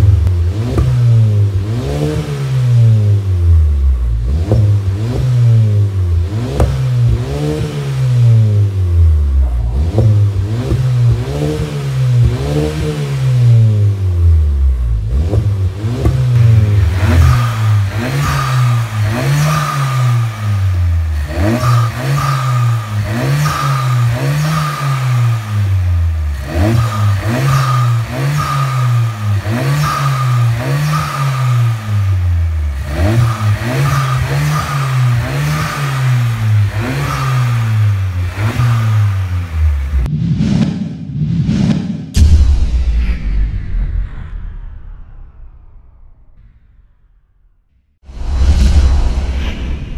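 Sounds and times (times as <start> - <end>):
car engine revving: 0.0 - 40.1.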